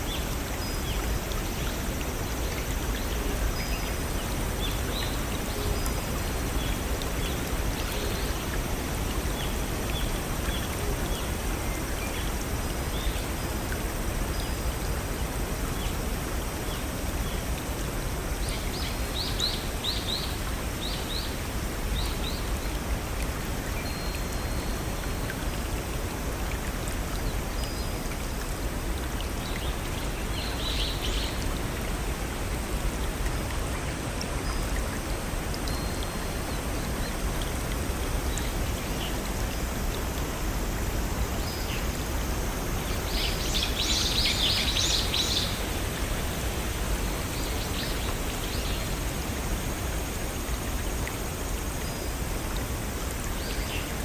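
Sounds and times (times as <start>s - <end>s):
stream rushing over waterfalls: 0.0s - 54.0s.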